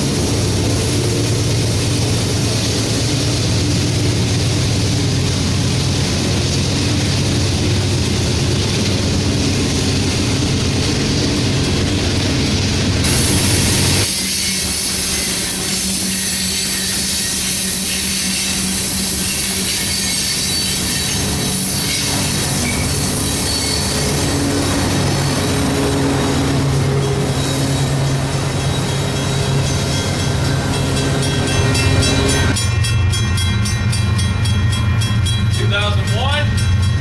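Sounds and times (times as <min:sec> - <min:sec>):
train rolling past: 0:00.0 - 0:37.0.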